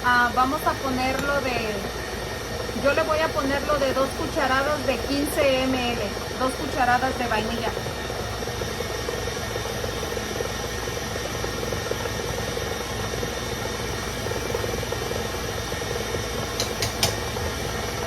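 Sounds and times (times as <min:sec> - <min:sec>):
electric mixer whipping: 0:00.0 - 0:18.0.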